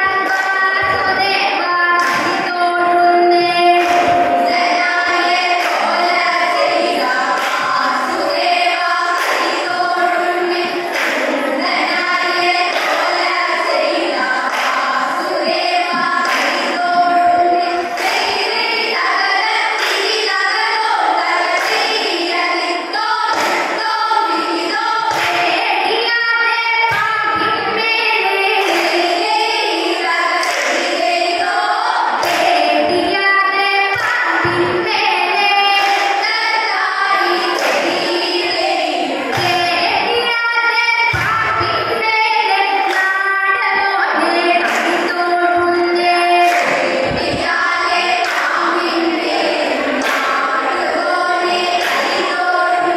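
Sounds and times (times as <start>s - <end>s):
clapped beat: 0.0s - 52.9s
women's group singing: 0.0s - 52.9s.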